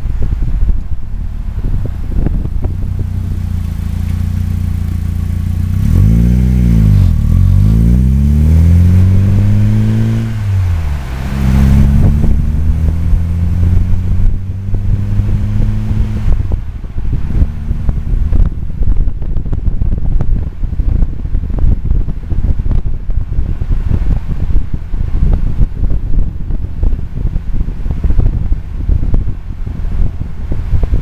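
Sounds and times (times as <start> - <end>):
car engine accelerating: 0.0 - 25.8
wind rumble on microphone: 0.0 - 31.0.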